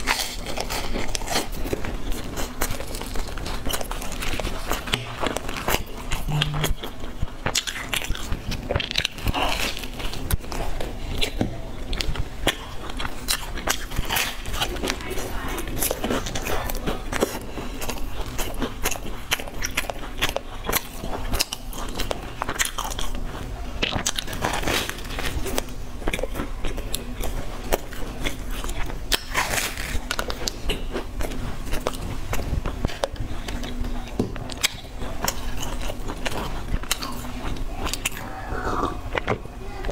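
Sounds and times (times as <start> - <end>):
crunchy pastry chewing: 0.0 - 39.9.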